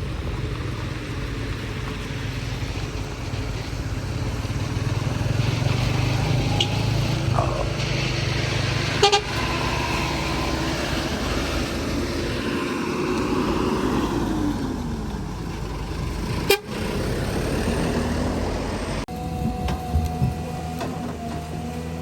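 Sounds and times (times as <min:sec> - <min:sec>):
heavy road traffic: 0:00.0 - 0:22.0
truck engine: 0:00.0 - 0:22.0.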